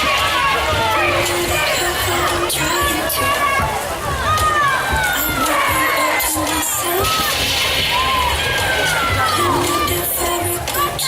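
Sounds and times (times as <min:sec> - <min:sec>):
children shouting and cheering: 0:00.0 - 0:11.0
music playing: 0:00.0 - 0:11.0.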